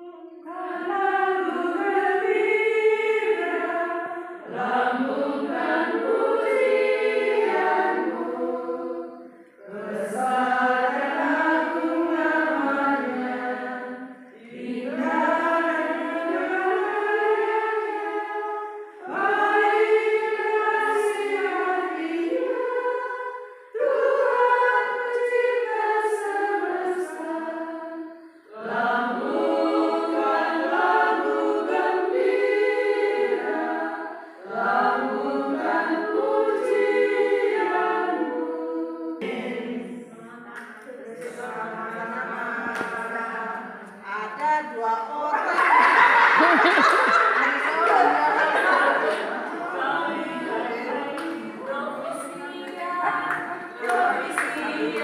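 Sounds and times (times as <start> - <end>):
women singing together: 0.0 - 55.0.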